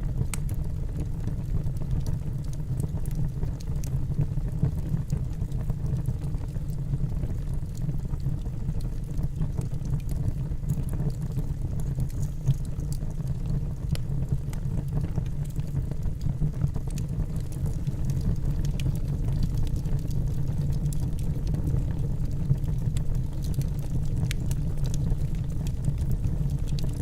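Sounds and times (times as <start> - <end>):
fire flames rumbling: 0.0 - 27.0.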